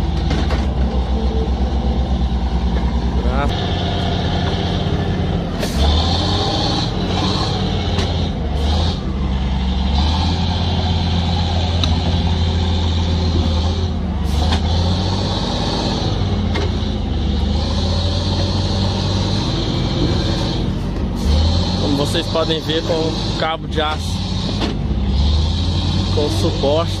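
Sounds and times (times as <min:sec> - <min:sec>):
heavy diesel engine droning: 0:00.0 - 0:27.0.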